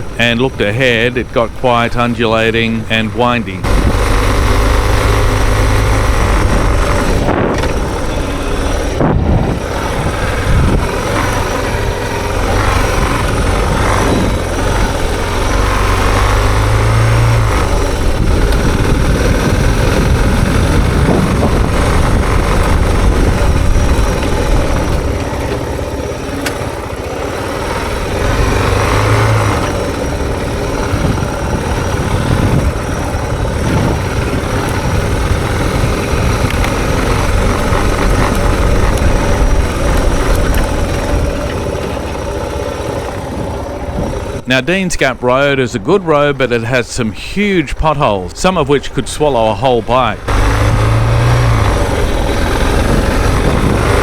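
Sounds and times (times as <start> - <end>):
motorcycle engine running: 0.0 - 44.5, 49.6 - 54.0.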